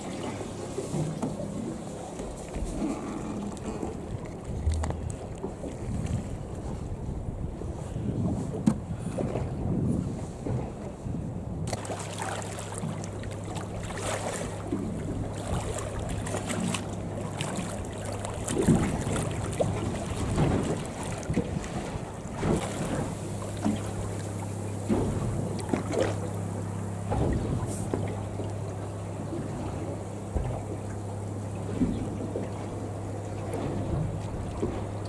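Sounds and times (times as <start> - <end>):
water slapping against hull: 0.0 - 35.0.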